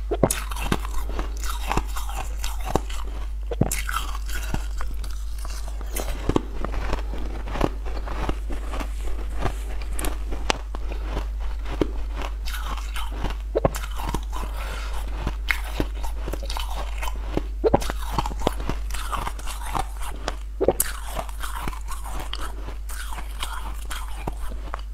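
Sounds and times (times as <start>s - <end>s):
crunching and chewing: 0.0s - 24.9s
steady low hum: 0.0s - 24.9s.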